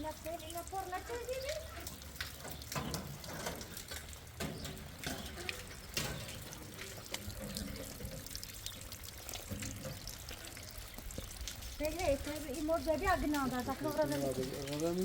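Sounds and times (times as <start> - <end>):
water running and splashing: 0.0 - 15.0.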